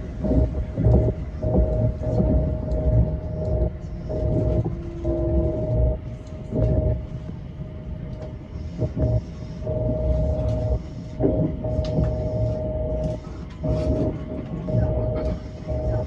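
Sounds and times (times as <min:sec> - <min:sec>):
steady whining tone: 0:00.0 - 0:16.0.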